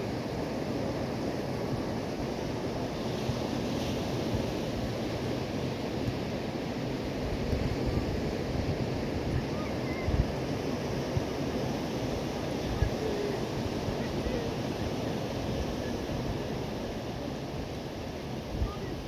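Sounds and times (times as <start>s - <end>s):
sea surf washing on shore: 0.0s - 19.0s
wind rumbling on microphone: 0.0s - 19.0s.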